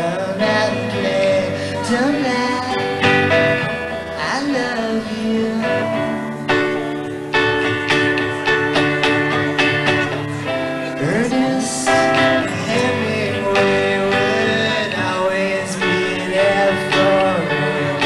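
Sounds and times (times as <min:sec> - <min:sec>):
acoustic guitar strumming chords: 0:00.0 - 0:18.0
person singing: 0:00.0 - 0:18.0.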